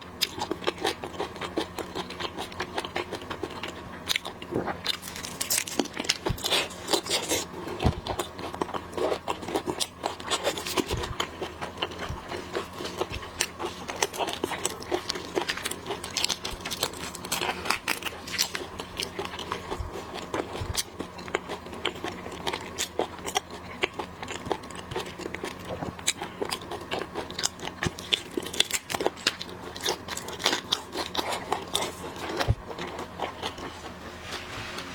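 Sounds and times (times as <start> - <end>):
crunching and wet chewing: 0.0 - 34.9
faint steady hum: 0.0 - 34.9.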